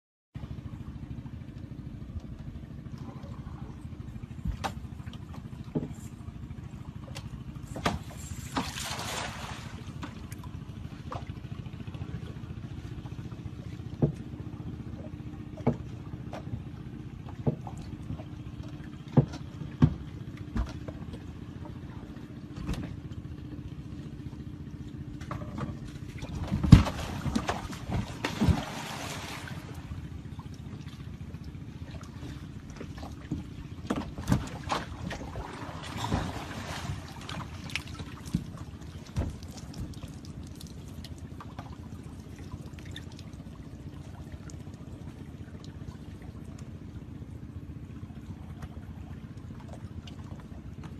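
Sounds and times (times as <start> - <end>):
engine drone: 0.4 - 50.9.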